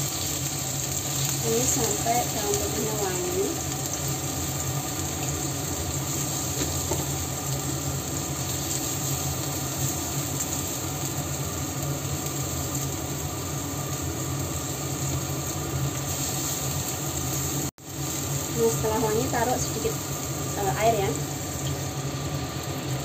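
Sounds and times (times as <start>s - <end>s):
constant low hum: 0.0s - 23.0s
garlic sizzling in frying pan: 0.0s - 23.0s.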